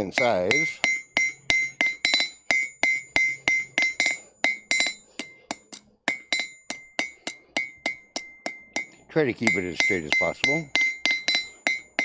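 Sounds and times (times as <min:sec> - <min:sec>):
hammer ringing on anvil: 0:00.0 - 0:12.0.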